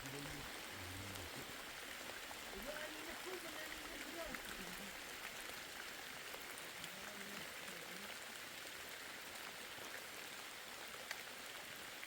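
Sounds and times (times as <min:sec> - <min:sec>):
raindrops ticking: 0:00.0 - 0:10.0
steady rain falling: 0:00.0 - 0:12.0.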